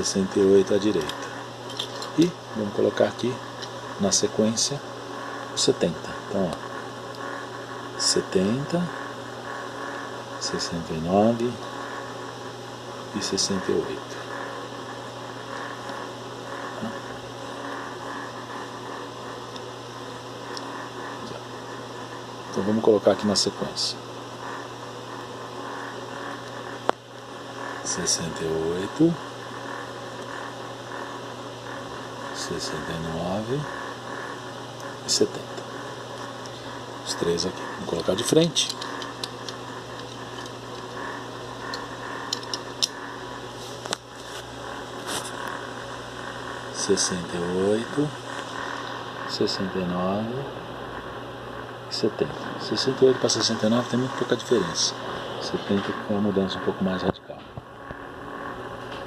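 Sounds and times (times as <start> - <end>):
room tone hum and hiss: 0.0 - 59.0.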